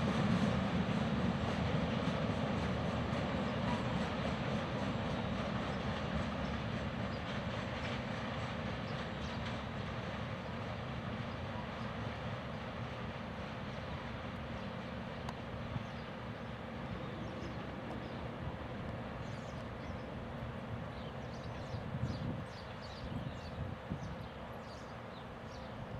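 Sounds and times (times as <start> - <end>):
freight train rumbling on rails: 0.0 - 25.9.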